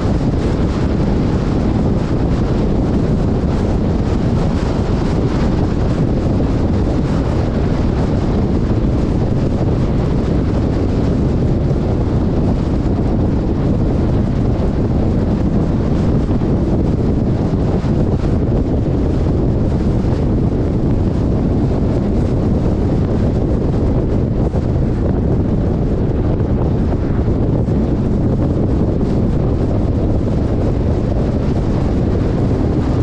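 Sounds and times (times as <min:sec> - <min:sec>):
moving vehicle rumble: 0:00.0 - 0:33.0
wind buffeting microphone: 0:00.0 - 0:33.0.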